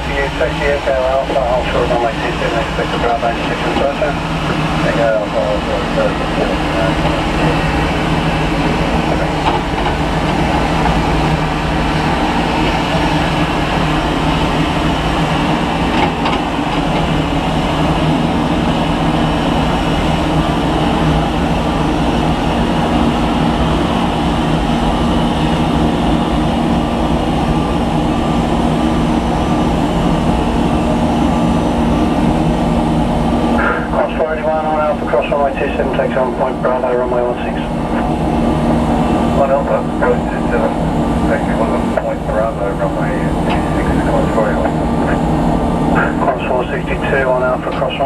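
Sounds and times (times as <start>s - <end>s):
jet engines rushing: 0.0s - 48.0s.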